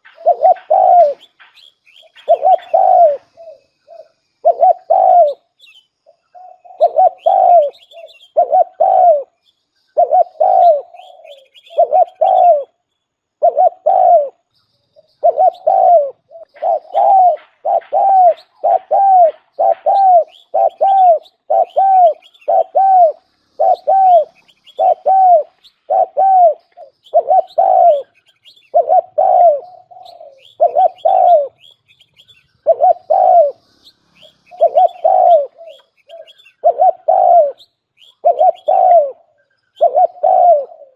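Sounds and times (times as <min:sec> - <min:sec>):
dove cooing: 0:00.0 - 0:09.4, 0:10.0 - 0:12.8, 0:13.4 - 0:40.9.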